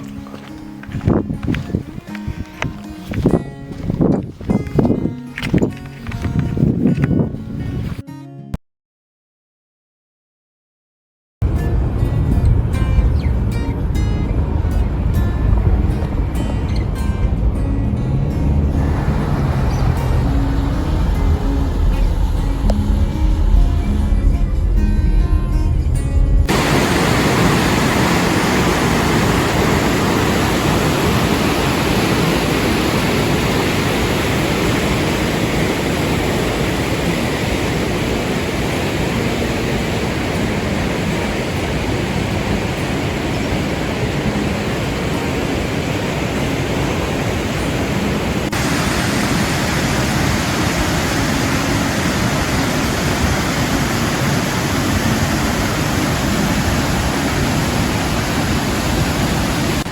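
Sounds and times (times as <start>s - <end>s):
fast-flowing river rushing: 0.0s - 6.7s, 11.5s - 59.9s.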